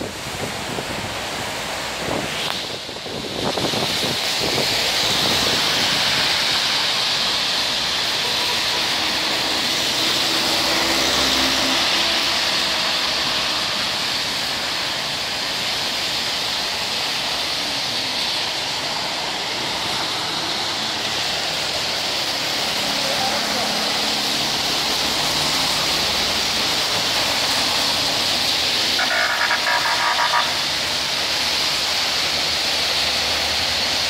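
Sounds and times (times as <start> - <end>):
tyres hissing on wet road: 0.0 - 34.0.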